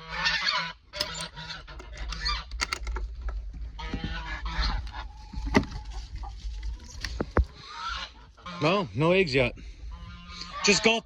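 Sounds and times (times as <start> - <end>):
geese honking: 0.0 - 2.5, 3.7 - 11.0.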